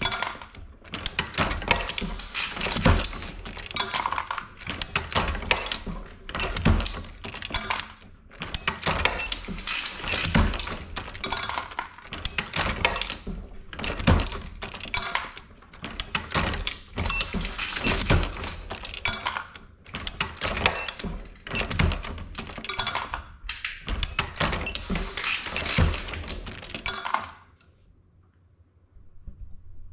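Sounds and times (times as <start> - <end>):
reloading press metallic clanks: 0.0 - 27.6.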